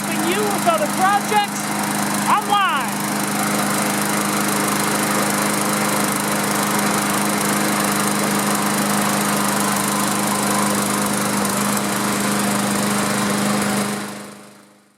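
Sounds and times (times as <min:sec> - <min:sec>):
mower engine running: 0:00.0 - 0:14.9.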